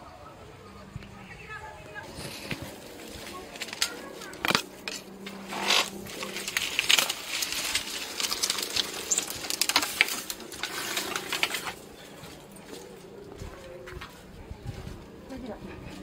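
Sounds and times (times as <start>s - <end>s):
dry straw rustling and crackling: 2.0s - 16.0s.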